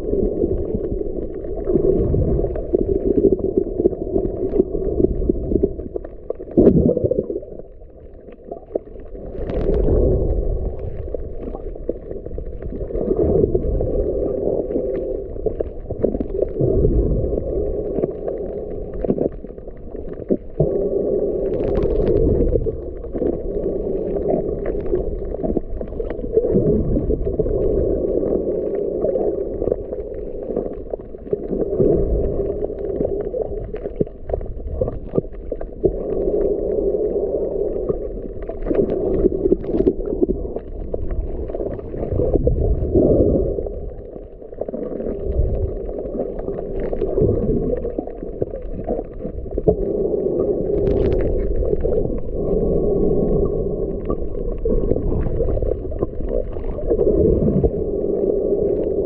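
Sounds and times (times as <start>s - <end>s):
faint underwater clicks: 0.0s - 59.0s
underwater sloshing rumble: 0.0s - 59.0s.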